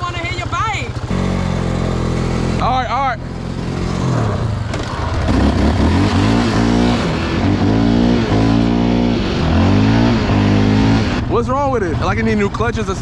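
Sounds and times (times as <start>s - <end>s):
quad engine revving: 0.0s - 13.0s
quad engine running steadily: 0.0s - 13.0s.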